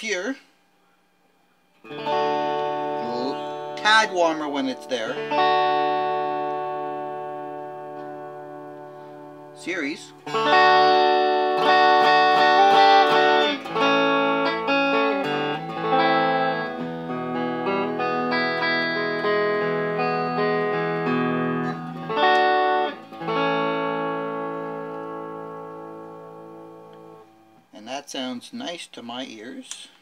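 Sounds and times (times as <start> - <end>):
electric guitar playing: 1.8 - 27.7.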